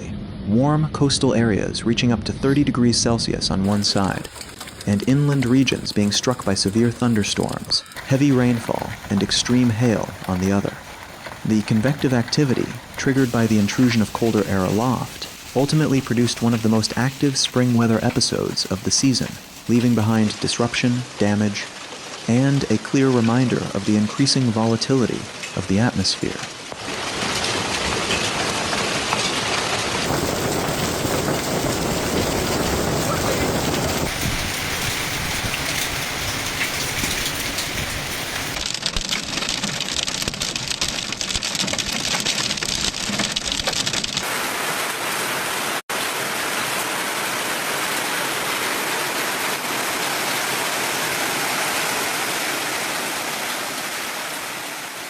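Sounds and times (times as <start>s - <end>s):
heavy rain pounding: 3.6s - 24.4s, 26.2s - 55.0s.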